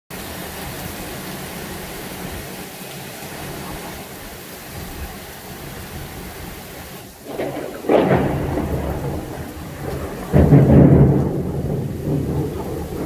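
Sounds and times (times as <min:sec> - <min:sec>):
rain falling steadily: 0:00.1 - 0:13.0.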